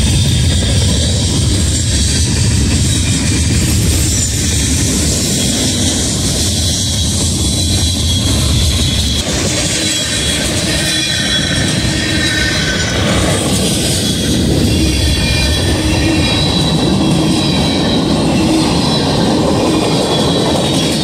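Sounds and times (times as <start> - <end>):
diesel locomotives passing: 0.0 - 21.0.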